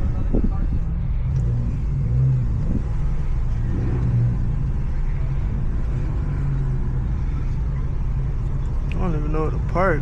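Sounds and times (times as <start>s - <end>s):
car exhaust droning: 0.0s - 10.0s.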